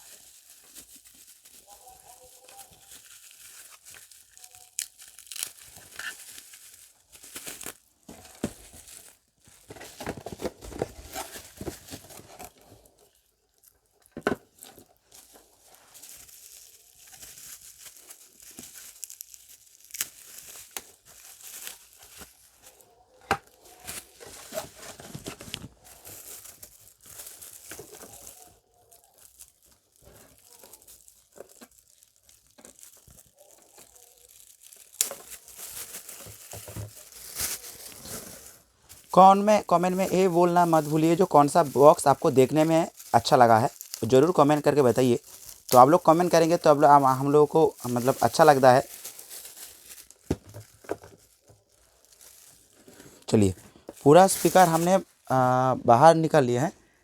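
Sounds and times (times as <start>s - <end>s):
packing paper crinkling and tearing: 0.0s - 56.7s.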